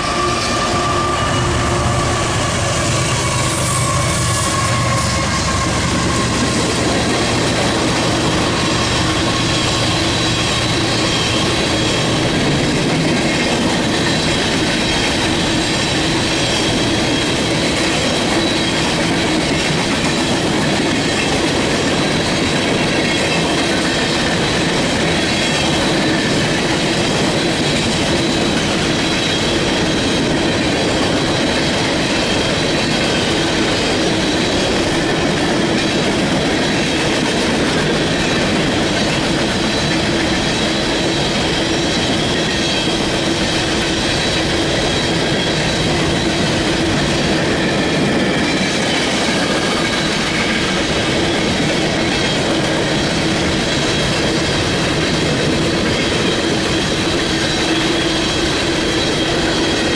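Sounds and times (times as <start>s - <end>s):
freight train cars rolling: 0.0s - 59.9s.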